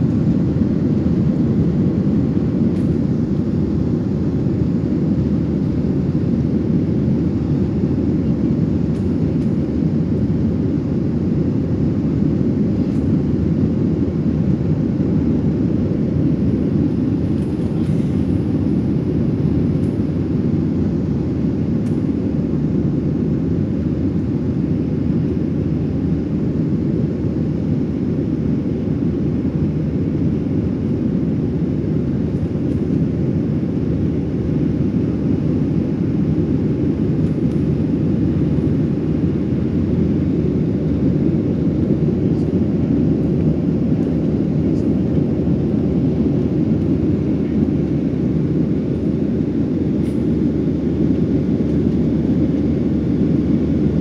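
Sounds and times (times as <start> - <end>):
airflow over fuselage: 0.0 - 54.0
jet engine rumble: 0.0 - 54.0.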